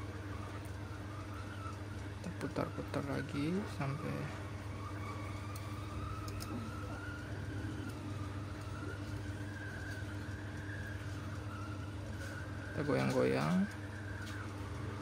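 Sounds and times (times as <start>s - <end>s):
hot-air blower fan humming: 0.0s - 15.0s.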